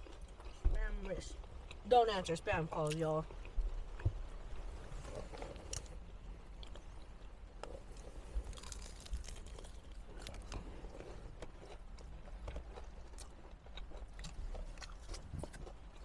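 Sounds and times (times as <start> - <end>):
crisp crunching and chewing: 0.0 - 1.8, 2.6 - 16.0
low steady hum: 0.0 - 16.0.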